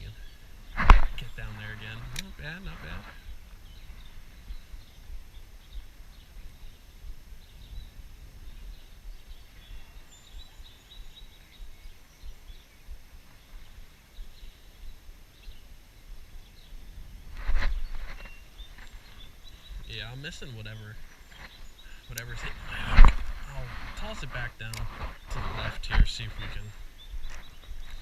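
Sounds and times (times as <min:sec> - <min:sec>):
wind buffeting microphone: 0:00.0 - 0:15.6, 0:16.2 - 0:28.0
bird chirps: 0:00.0 - 0:28.0.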